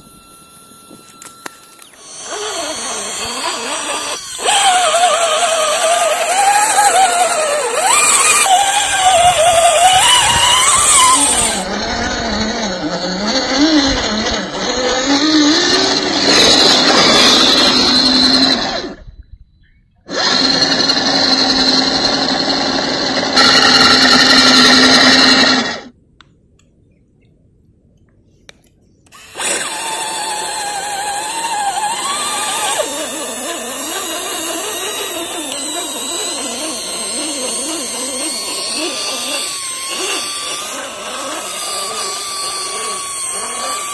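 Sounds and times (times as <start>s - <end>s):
small electric motor whining: 0.0s - 19.2s, 20.1s - 25.9s, 29.1s - 43.9s.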